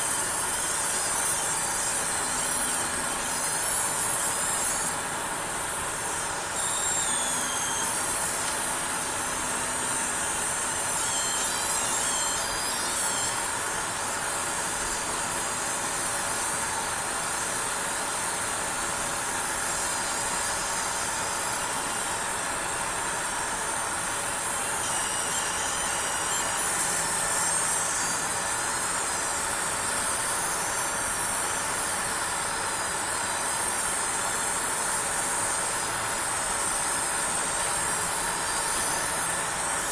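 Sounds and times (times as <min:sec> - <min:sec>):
high-pitched electrical coil whine: 0:00.0 - 0:39.9.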